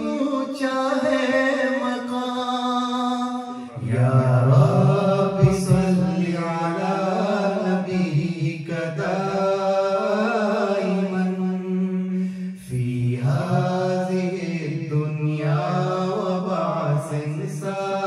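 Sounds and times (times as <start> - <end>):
men singing unaccompanied: 0.0 - 11.8, 12.7 - 18.0.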